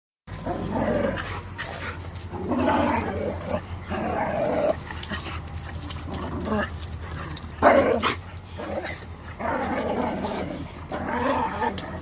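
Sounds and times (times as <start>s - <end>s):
dogs growling while play fighting: 0.3s - 12.0s.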